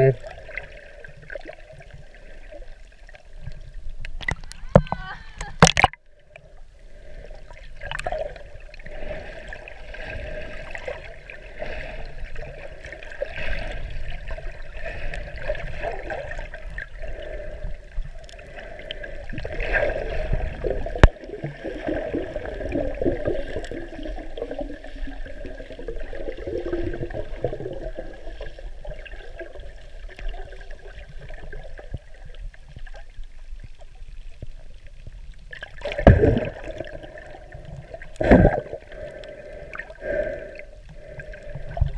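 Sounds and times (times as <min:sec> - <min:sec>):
underwater gurgling rumble: 0:00.0 - 0:41.9.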